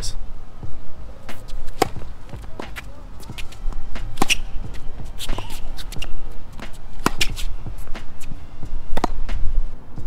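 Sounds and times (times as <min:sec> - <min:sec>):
steady low rumble: 0:00.0 - 0:10.0
racket striking tennis ball: 0:01.2 - 0:09.5.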